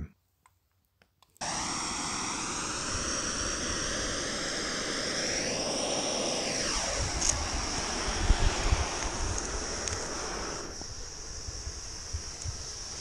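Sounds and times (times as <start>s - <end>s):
rushing hiss of flame: 1.4s - 13.0s.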